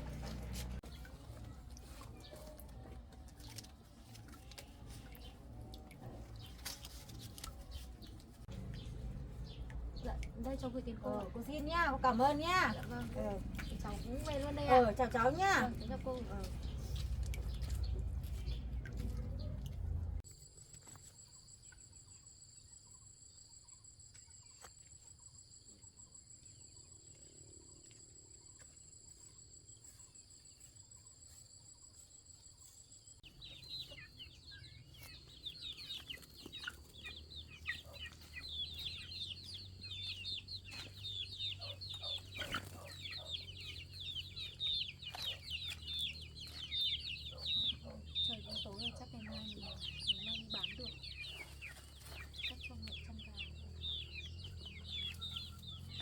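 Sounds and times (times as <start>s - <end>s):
chickens chirping and clucking: 0.0s - 20.2s, 28.6s - 56.0s.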